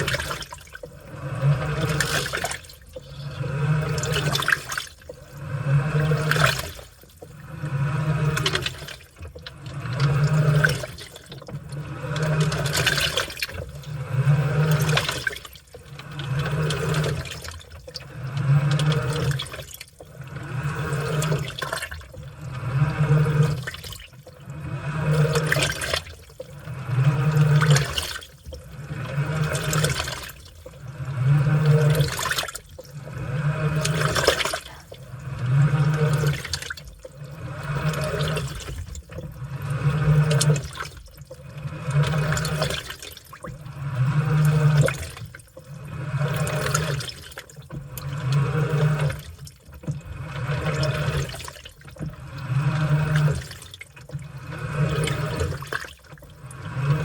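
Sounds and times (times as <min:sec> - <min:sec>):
washing machine motor humming: 0:00.0 - 0:57.0
water sloshing: 0:00.0 - 0:57.0.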